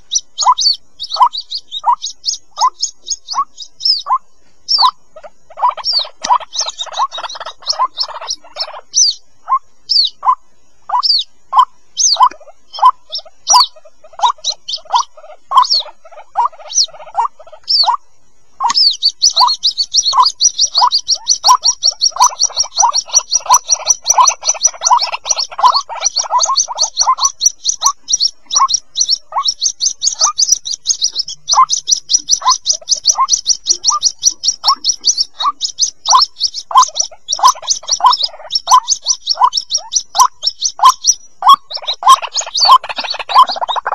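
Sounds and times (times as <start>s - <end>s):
bird chicks short sharp calls: 0.0s - 18.0s, 18.6s - 43.9s
high-pitched bird chattering: 0.0s - 18.0s, 18.6s - 43.9s.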